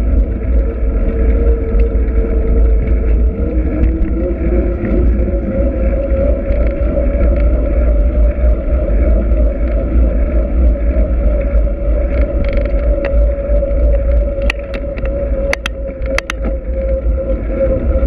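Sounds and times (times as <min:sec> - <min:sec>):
steady hum: 0:00.0 - 0:18.0
wind rumble on microphone: 0:00.0 - 0:18.0.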